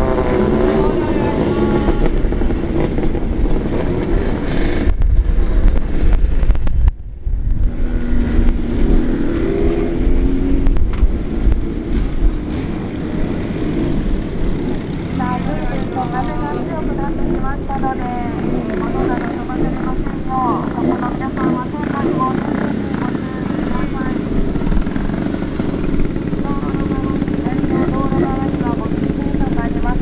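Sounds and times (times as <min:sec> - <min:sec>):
motorcycles revving past: 0:00.0 - 0:30.0.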